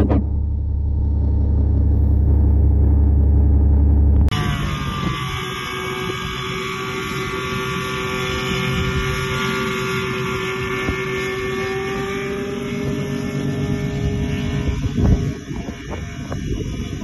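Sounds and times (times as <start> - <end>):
propeller engine droning: 0.0 - 17.0.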